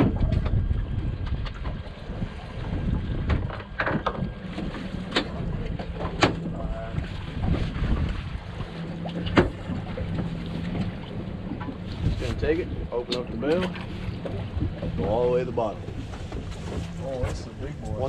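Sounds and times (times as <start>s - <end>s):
boat engine rumble: 0.0s - 18.0s
wind buffeting microphone: 0.0s - 18.0s.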